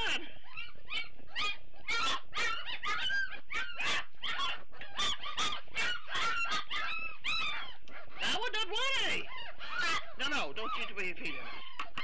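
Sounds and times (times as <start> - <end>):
puppies whining and squealing: 0.0 - 12.0.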